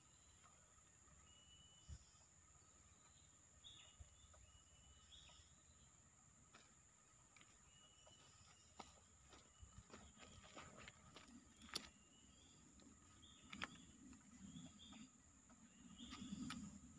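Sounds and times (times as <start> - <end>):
distant bird chirps: 0.0 - 16.9
high insect drone: 0.0 - 16.9.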